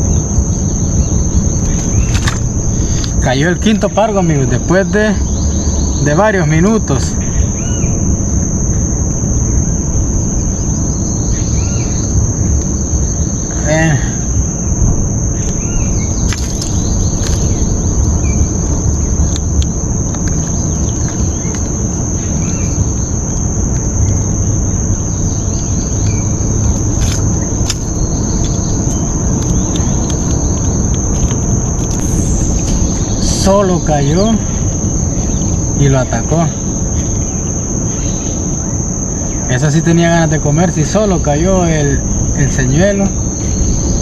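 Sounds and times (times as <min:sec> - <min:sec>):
high-pitched insect drone: 0:00.0 - 0:44.0
low rumbling background: 0:00.0 - 0:44.0.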